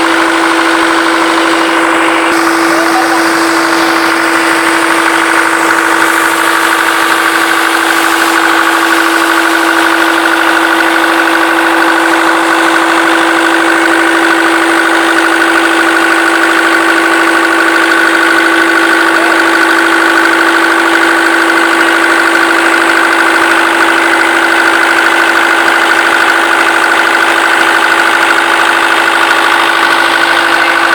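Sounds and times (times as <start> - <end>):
diesel engine running steadily: 0.0 - 30.9.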